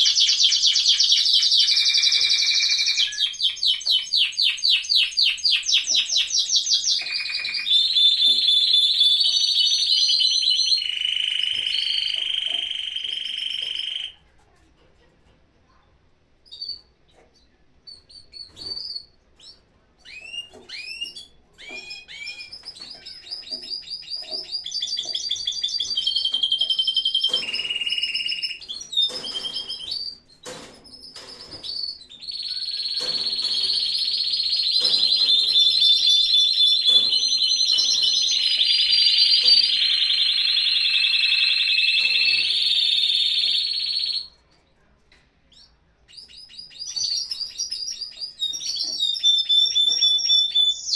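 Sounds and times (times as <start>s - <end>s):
canaries singing trills: 0.0s - 14.4s, 16.4s - 44.4s, 45.4s - 50.9s.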